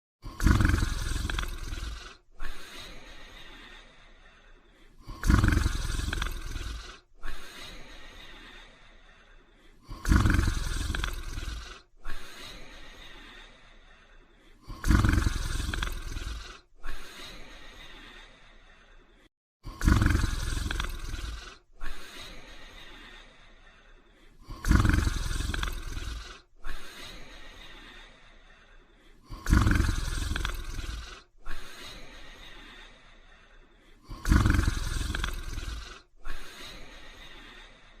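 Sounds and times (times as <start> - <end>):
person snoring: 0.2 - 38.0.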